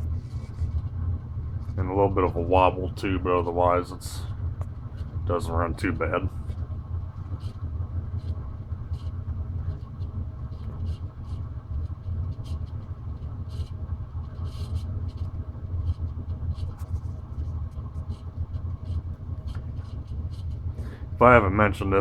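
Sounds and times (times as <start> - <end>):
ceiling fan humming with ticks: 0.0 - 22.0
furnace rumbling: 0.0 - 22.0.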